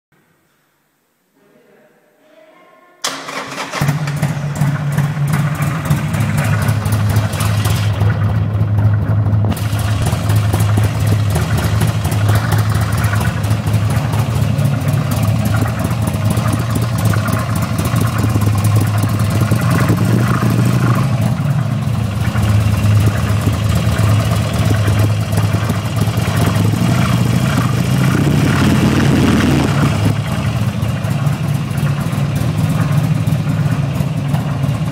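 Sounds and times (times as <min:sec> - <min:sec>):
motorcycle engine idling: 0:03.7 - 0:34.9.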